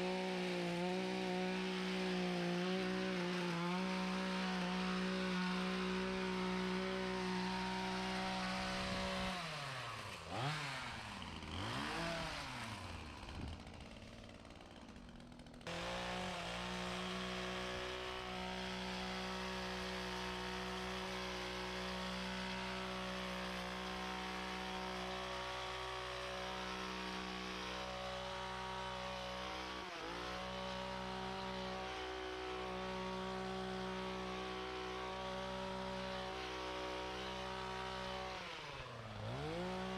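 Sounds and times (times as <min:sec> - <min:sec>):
leaf blower engine running: 0:00.0 - 0:39.9.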